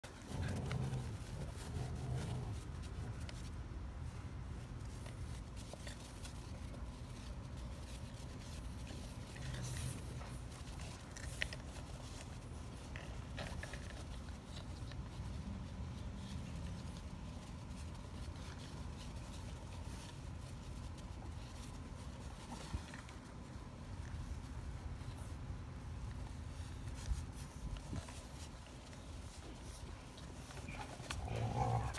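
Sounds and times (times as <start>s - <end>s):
puppies scuffling: 0.0s - 31.9s.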